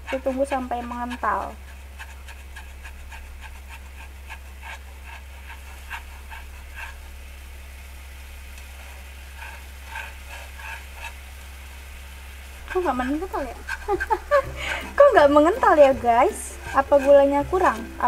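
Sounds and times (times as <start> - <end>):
steady low hum: 0.0 - 18.0
syrup simmering in a pan: 0.1 - 18.0.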